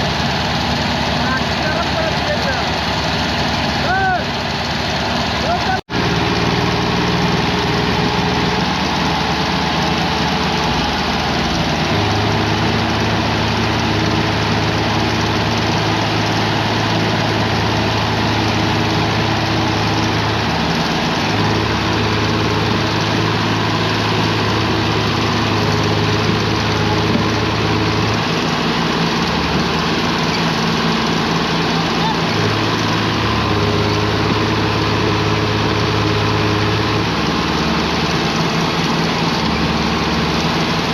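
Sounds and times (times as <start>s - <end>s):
tractor diesel engines running: 0.0s - 40.9s.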